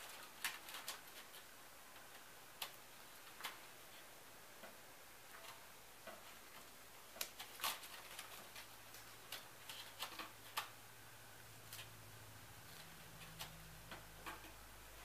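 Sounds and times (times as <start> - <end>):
tape clicking and crackling: 0.0 - 15.0.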